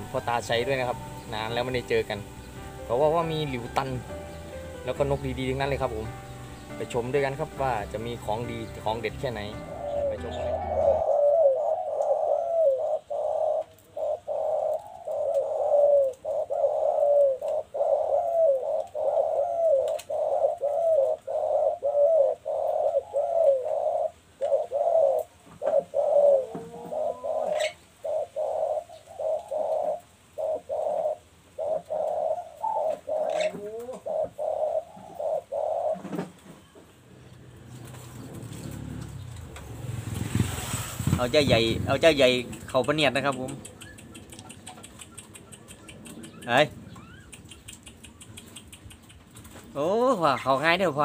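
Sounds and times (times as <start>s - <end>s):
doves cooing: 6.8s - 51.0s.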